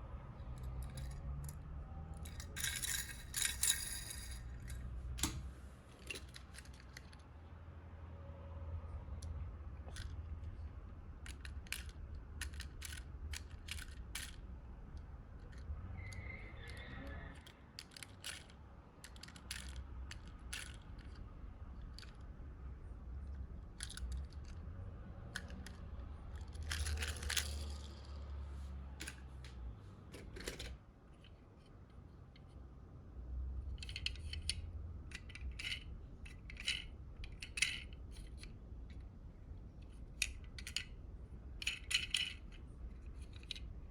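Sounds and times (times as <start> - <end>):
toy cars clicking together: 0.4 - 5.4, 6.0 - 7.3, 9.1 - 22.5, 23.1 - 28.4, 29.0 - 29.6, 33.6 - 39.1, 39.7 - 43.9.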